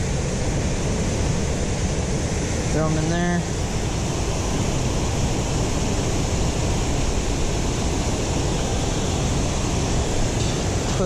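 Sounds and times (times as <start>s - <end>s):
water pouring over waterfall: 0.0s - 11.0s.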